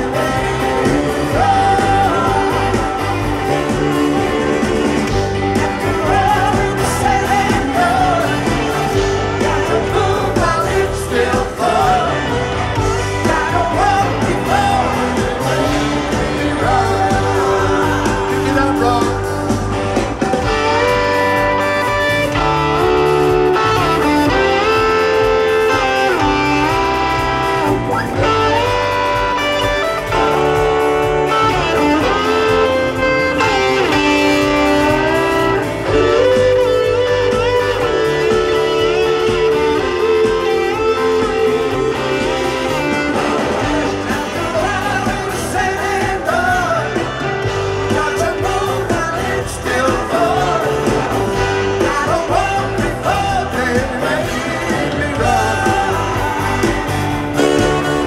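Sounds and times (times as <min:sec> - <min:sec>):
man singing lead: 0:00.0 - 0:58.0
rock band playing live: 0:00.0 - 0:58.0.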